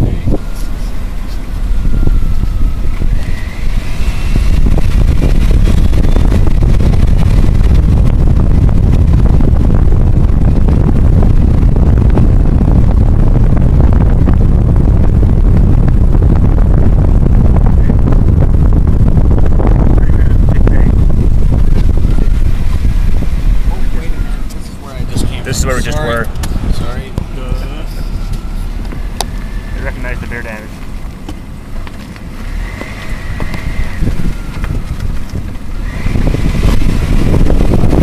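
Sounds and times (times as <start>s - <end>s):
car road and wind noise: 0.0s - 38.0s.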